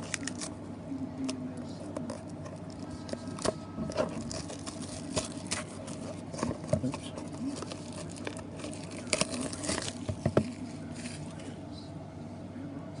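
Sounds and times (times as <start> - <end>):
cards and packaging handled: 0.0 - 0.6, 1.2 - 11.6
steady low hum: 0.0 - 13.0.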